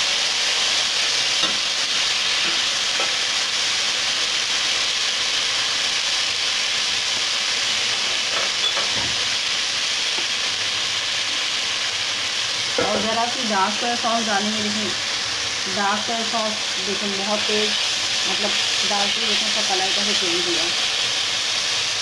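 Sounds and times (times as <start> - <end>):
chicken sizzling in a pan: 0.0 - 22.0.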